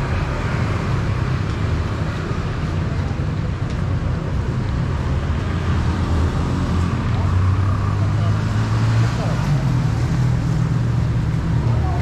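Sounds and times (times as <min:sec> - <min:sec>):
motorbikes passing: 0:00.0 - 0:12.0
road traffic: 0:00.0 - 0:12.0.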